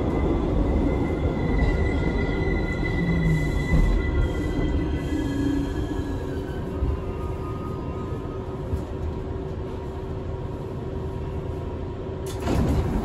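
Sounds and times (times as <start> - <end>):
subway car rumbling: 0.0 - 13.0.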